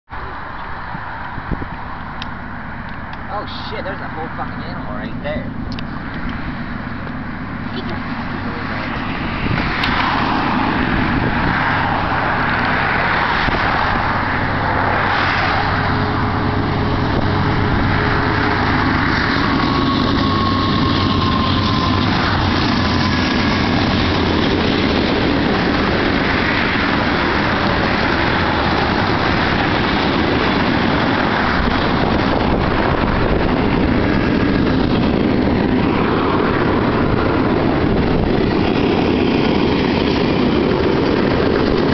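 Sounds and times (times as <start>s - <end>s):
freight train rumbling past: 0.1s - 41.9s
highway traffic passing: 0.1s - 41.9s.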